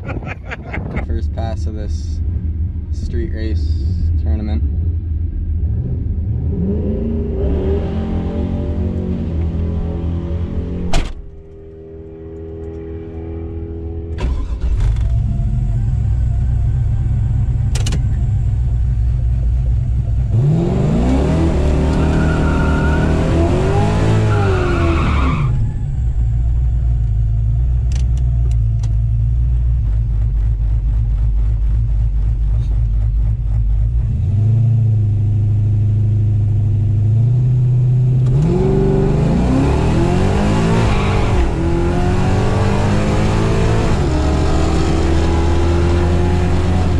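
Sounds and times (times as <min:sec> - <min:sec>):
car engines revving: 0:00.0 - 0:35.8, 0:36.4 - 0:46.9.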